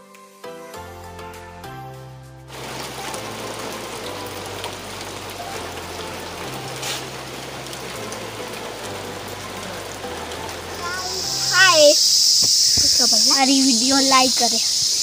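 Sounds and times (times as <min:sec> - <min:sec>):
rain on foliage and paving: 0:02.5 - 0:15.0.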